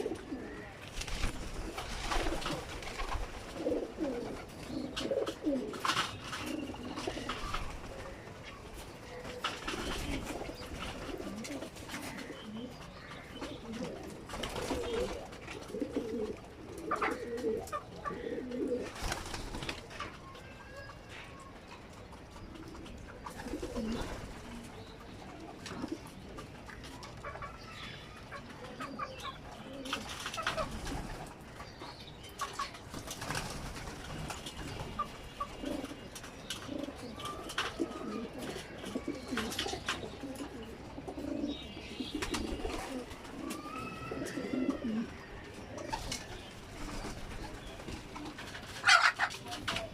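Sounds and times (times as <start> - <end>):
pigeons cooing: 0.0 - 31.7, 32.4 - 49.9.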